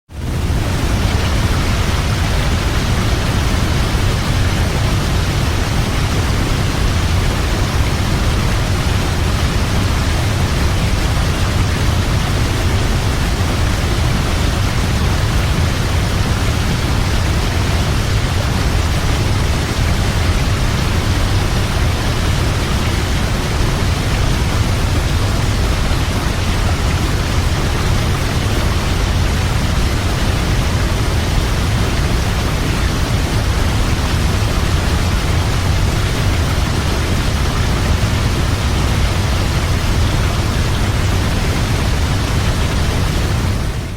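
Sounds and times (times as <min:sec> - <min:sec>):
waterfall rushing: 0:00.2 - 0:43.9.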